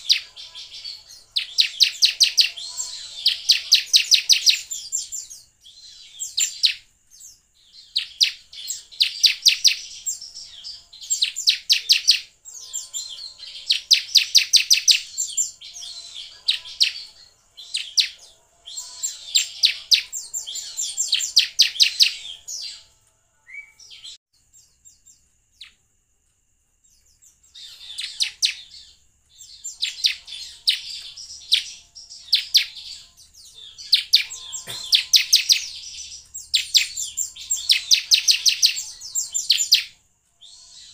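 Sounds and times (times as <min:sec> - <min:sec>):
bird trilling chirps: 0:00.0 - 0:25.8, 0:26.9 - 0:40.9.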